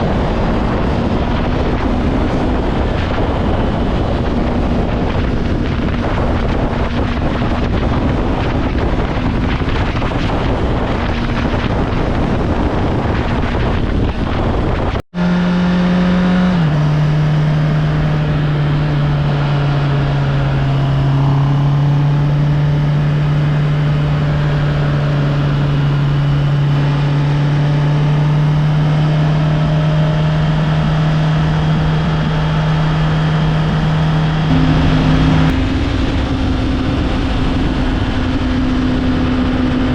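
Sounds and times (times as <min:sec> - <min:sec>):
motorcycle engine hum: 0:00.0 - 0:39.9
wind noise on microphone: 0:00.0 - 0:39.9.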